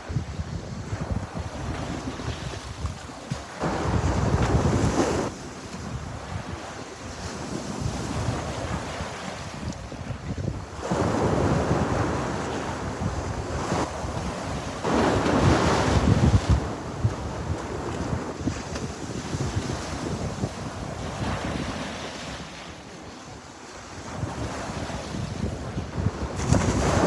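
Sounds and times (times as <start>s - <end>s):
wind buffeting microphone: 0.0s - 23.1s, 23.8s - 27.0s
sea waves breaking: 0.8s - 27.0s.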